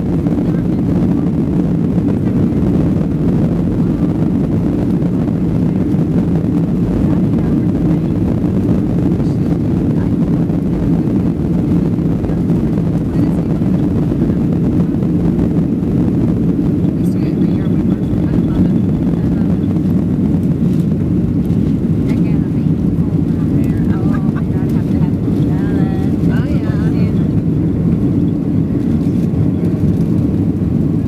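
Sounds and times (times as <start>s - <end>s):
jet engines humming in cabin: 0.0s - 31.0s.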